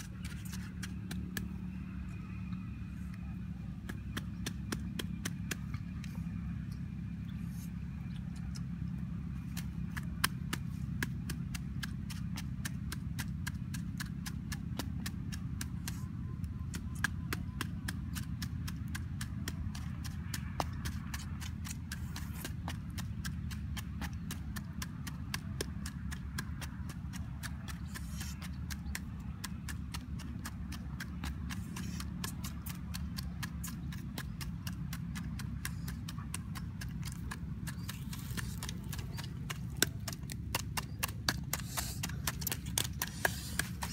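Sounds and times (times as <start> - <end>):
pestle pounding in mortar: 3.8 - 5.9, 9.2 - 43.9.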